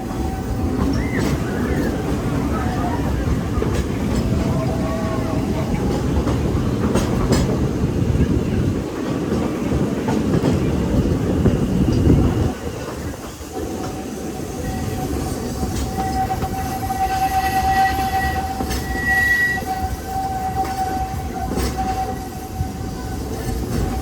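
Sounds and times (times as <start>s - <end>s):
train rolling rumble: 0.0s - 24.0s.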